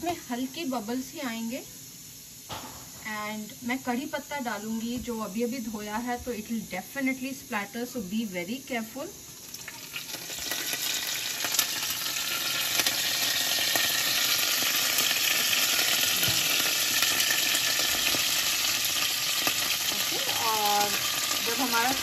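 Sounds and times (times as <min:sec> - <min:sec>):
leaves sizzling in hot oil: 0:00.0 - 0:22.0.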